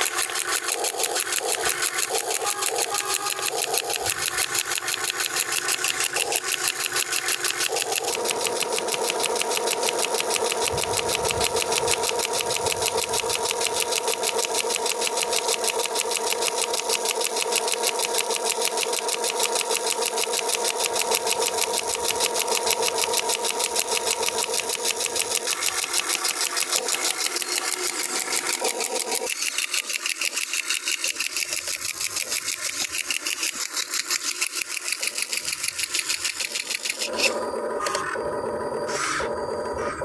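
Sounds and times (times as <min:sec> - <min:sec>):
drive motor whine: 0:00.0 - 0:29.6, 0:35.2 - 0:40.0.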